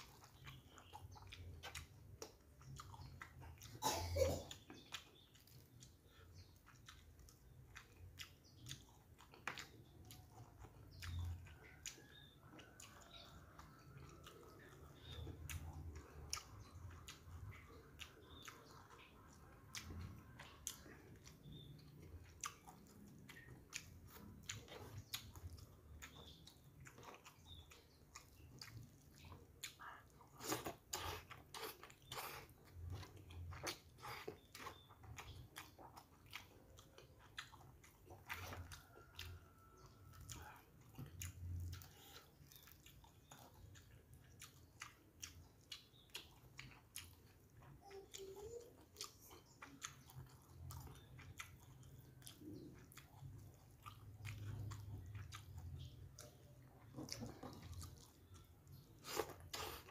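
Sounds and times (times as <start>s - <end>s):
person chewing with mouth clicks: 0.0s - 3.8s, 4.4s - 59.9s.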